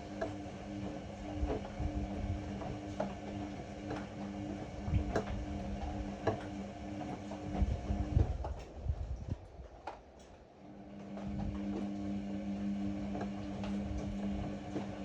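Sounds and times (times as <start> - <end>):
washer-dryer motor hum: 0.0 - 15.0.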